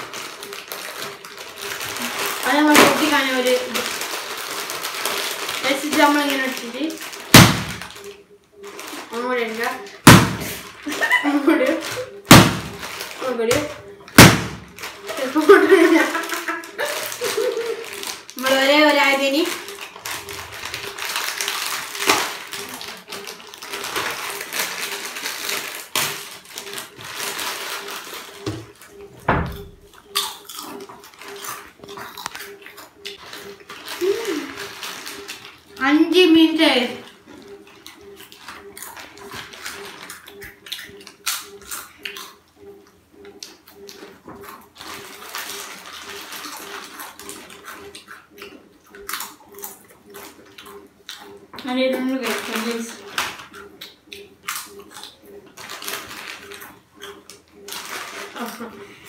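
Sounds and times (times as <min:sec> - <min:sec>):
chip packets crinkling: 0:00.0 - 0:29.0, 0:29.6 - 0:42.4, 0:43.4 - 0:59.0.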